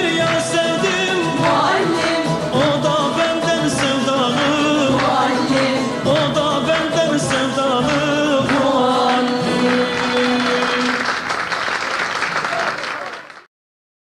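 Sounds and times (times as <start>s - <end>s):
song with singing: 0.0s - 11.4s.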